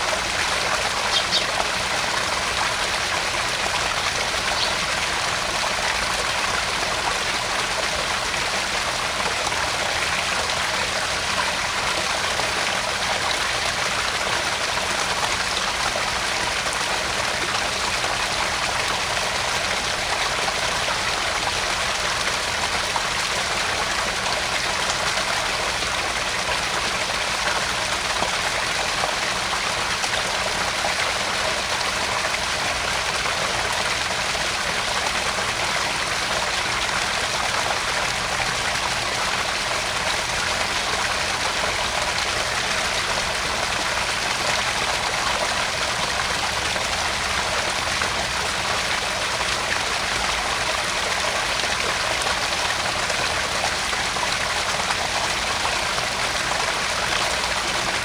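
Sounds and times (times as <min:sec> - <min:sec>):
pond waterfall splashing: 0:00.0 - 0:58.0.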